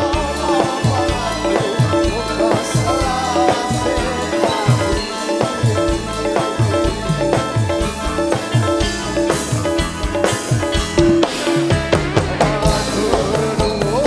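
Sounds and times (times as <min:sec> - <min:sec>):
drums and percussion beat: 0:00.0 - 0:14.0
held instrumental notes: 0:00.0 - 0:14.0.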